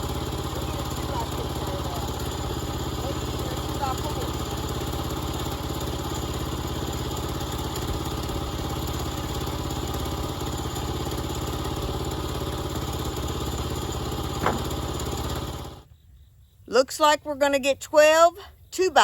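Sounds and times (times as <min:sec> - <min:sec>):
small gasoline engine running: 0:00.0 - 0:15.9.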